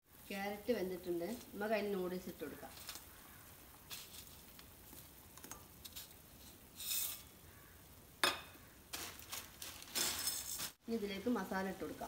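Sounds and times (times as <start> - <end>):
noodles crackling in boiling water: 0.0 - 12.0.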